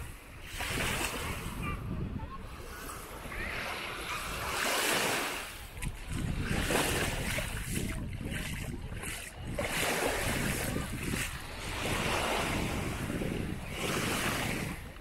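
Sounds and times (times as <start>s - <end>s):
sea waves washing in: 0.0s - 15.0s
wind rumbling on microphone: 0.0s - 15.0s.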